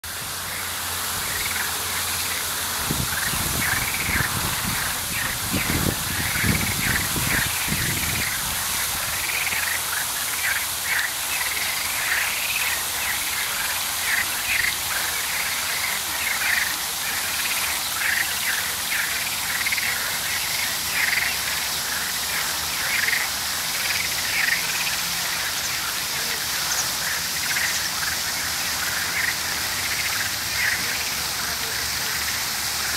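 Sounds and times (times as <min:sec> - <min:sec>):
frogs croaking: 0:00.0 - 0:32.9
steady hiss: 0:00.0 - 0:32.9.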